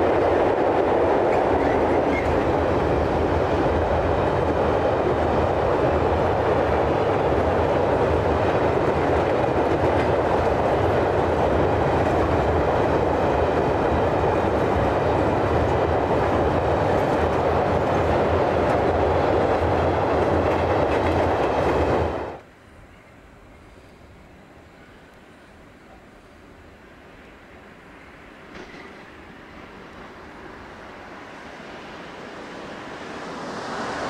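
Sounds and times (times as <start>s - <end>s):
train wheels running on rails: 0.0s - 26.6s, 27.2s - 34.0s.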